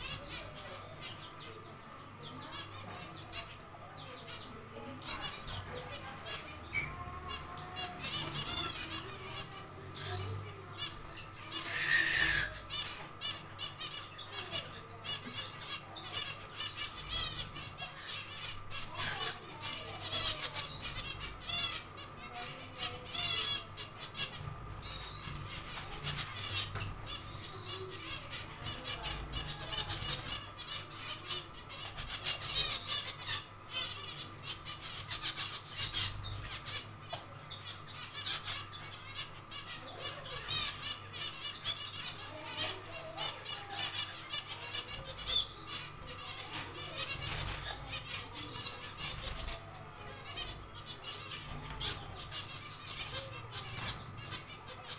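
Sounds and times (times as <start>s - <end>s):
finches chirping: 0.0s - 54.9s.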